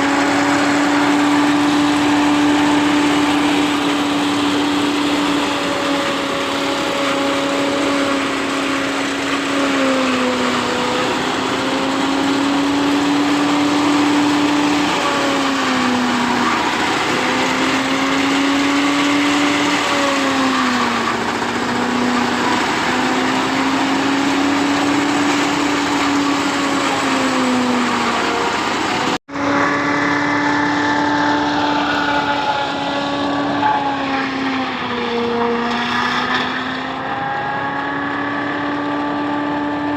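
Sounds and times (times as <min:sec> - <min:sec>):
machine engine hum: 0:00.0 - 0:39.9.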